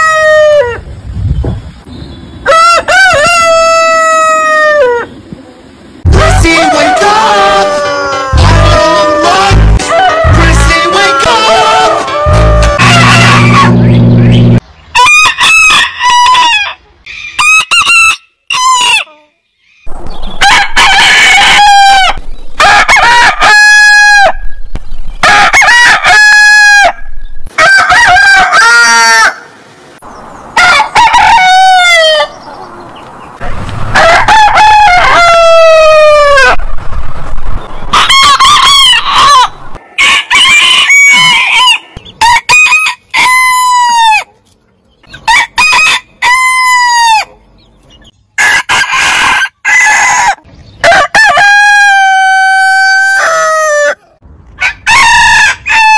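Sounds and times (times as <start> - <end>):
roosters crowing: 0.0 - 0.9, 2.4 - 5.2, 6.0 - 19.1, 19.9 - 24.6, 25.2 - 29.6, 30.5 - 36.7, 37.8 - 44.3, 45.0 - 47.5, 48.4 - 55.9.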